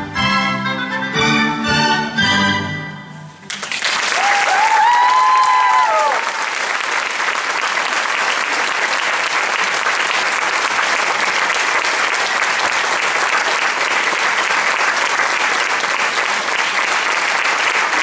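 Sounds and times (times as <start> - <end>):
audience applauding: 3.4 - 18.0.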